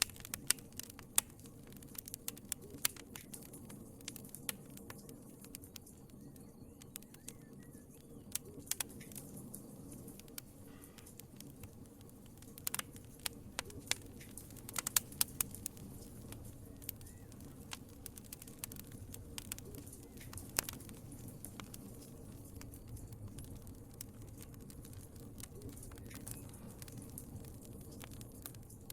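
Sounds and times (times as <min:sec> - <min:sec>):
fire crackling in a fireplace: 0:00.0 - 0:28.9.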